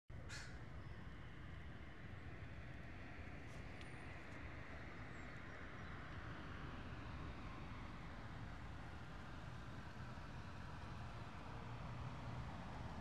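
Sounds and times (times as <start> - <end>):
distant road traffic: 0.1 - 13.0.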